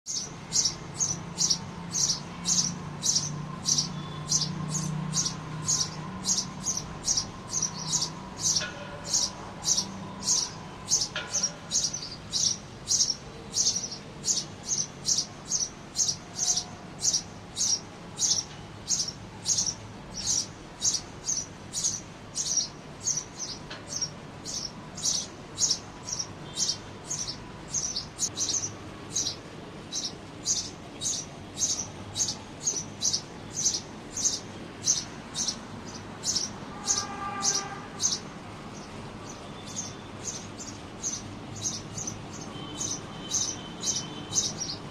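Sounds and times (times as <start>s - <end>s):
bird chirping: 0.1s - 44.9s.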